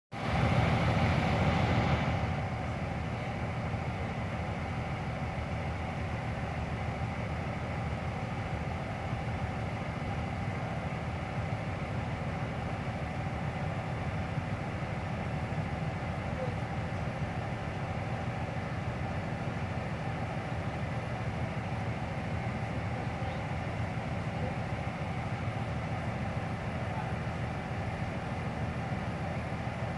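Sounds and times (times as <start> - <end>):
freight train wheels rumbling: 0.1 - 29.9.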